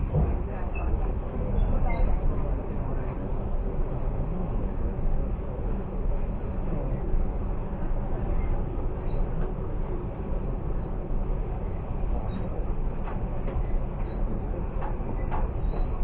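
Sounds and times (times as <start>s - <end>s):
passenger train running: 0.0s - 16.0s.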